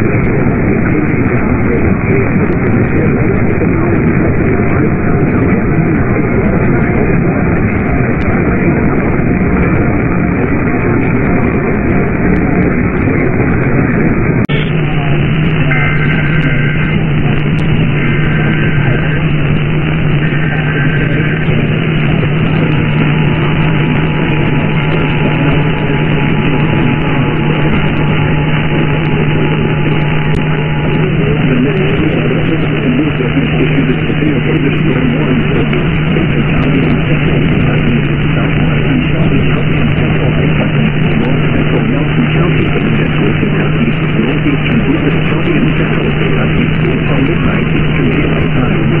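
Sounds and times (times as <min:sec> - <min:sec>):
low hum: 0:00.0 - 0:49.0
radio static: 0:00.0 - 0:49.0.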